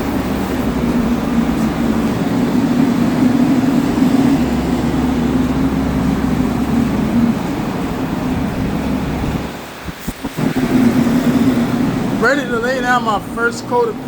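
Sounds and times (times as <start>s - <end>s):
rush of air: 0.0s - 12.3s
machinery hum: 0.0s - 14.0s.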